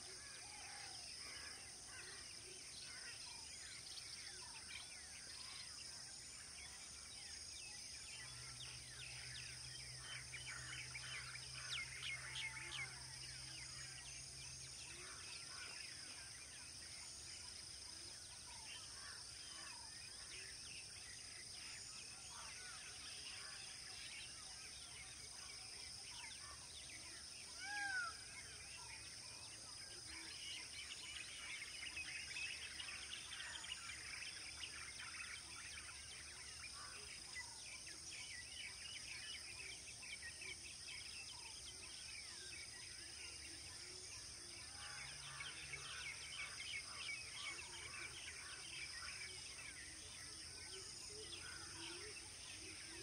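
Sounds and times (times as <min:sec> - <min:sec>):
insect drone: 0:00.0 - 0:53.0.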